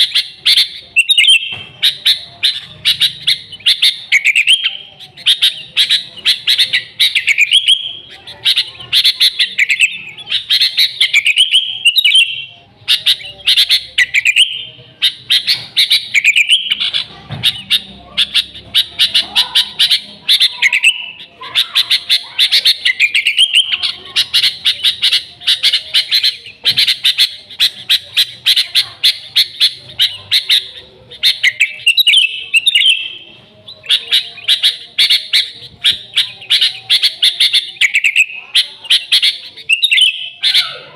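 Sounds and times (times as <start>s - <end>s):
bulbul singing sharp chirps: 0.0s - 40.9s.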